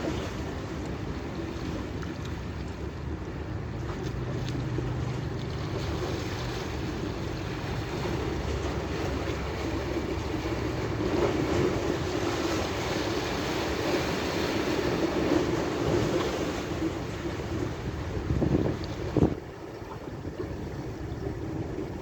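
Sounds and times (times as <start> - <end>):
water noise: 0.0 - 22.0
wind on microphone: 0.0 - 22.0.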